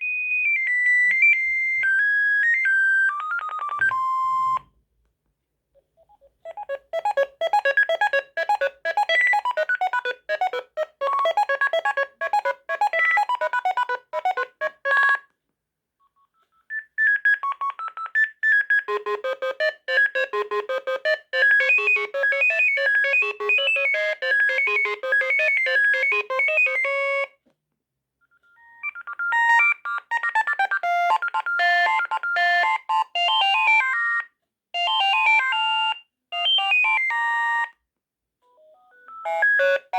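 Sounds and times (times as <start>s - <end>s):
mobile phone ringtone melodies: 0.4s - 4.6s, 6.4s - 15.2s, 17.1s - 27.3s, 28.5s - 37.8s, 38.6s - 39.9s.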